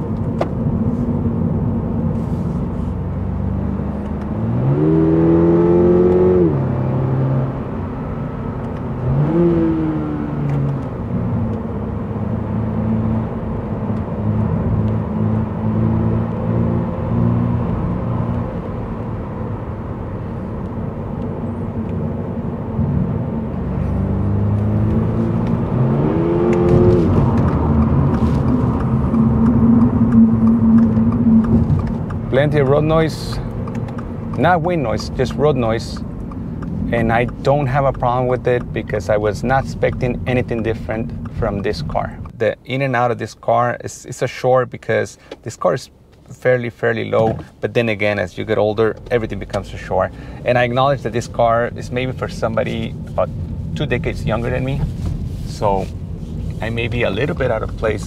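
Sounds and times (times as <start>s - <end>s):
car engine accelerating: 0.0s - 42.4s, 47.0s - 58.0s
tyre road noise: 0.0s - 58.0s.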